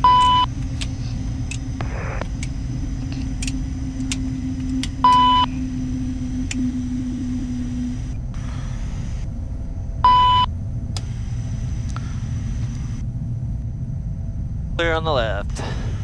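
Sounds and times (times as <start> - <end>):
cockpit low hum: 0.0 - 16.0.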